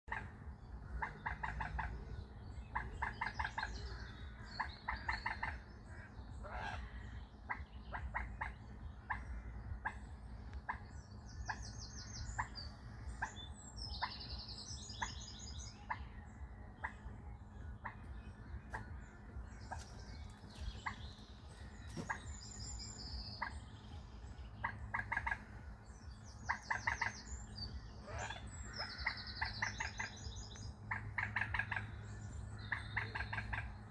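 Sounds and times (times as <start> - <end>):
small birds trilling: 0.1 - 33.9.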